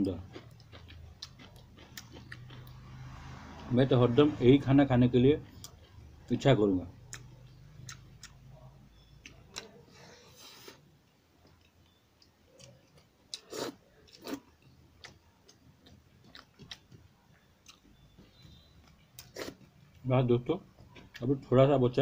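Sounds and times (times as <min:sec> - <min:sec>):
man chewing food: 0:00.1 - 0:03.6, 0:05.4 - 0:06.3, 0:07.0 - 0:20.0, 0:20.7 - 0:21.3.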